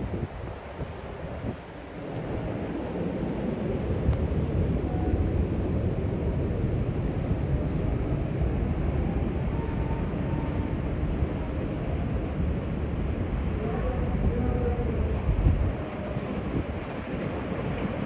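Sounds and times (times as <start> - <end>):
storm wind rumbling on microphone: 0.0 - 18.0.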